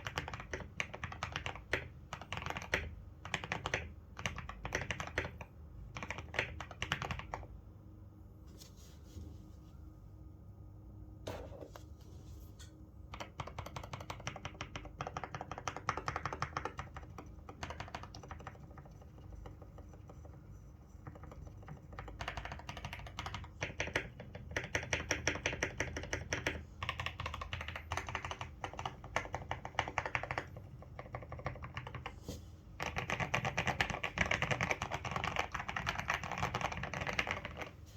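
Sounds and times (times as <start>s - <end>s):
mechanical keyboard typing: 0.0s - 7.5s, 13.1s - 32.2s, 32.8s - 37.7s.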